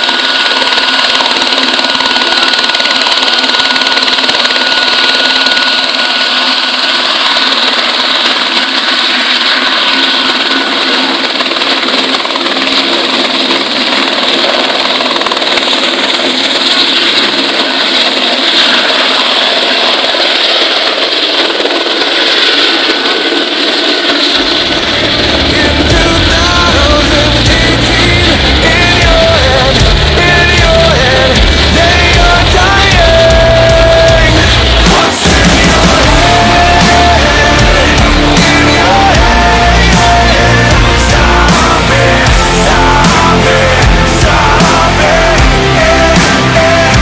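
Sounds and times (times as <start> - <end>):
helicopter rotor noise: 0.0 - 47.0
helicopter turbine whine: 0.0 - 47.0.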